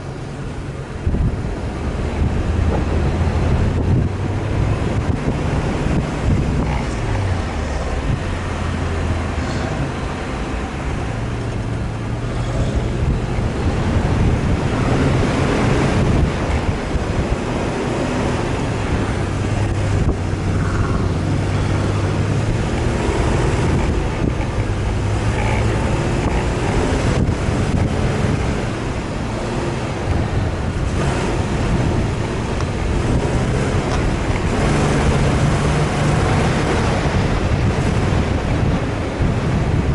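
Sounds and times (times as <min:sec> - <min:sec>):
vehicle engine humming: 0:00.0 - 0:39.9
wind rushing: 0:00.0 - 0:39.9
tyre noise: 0:01.0 - 0:39.9.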